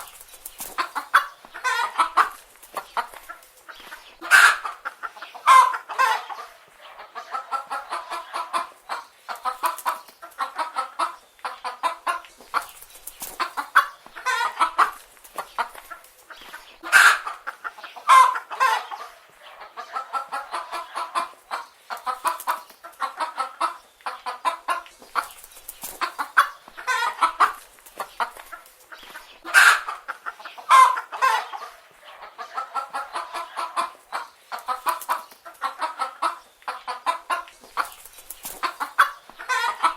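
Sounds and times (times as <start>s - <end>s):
hens clucking: 0.0s - 39.9s
hens squawking: 0.0s - 39.9s.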